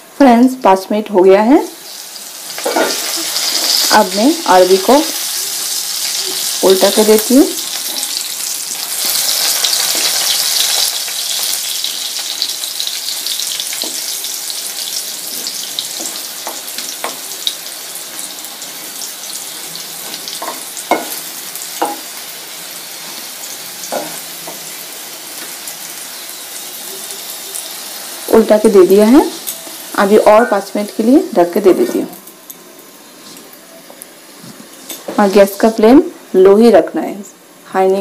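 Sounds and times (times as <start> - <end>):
food sizzling in hot oil: 1.3 - 36.8.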